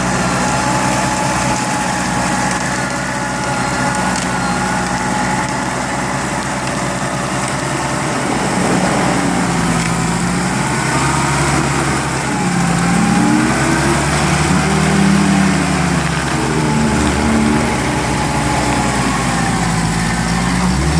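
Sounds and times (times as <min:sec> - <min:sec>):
off-road vehicle engine revving: 0:00.0 - 0:20.9.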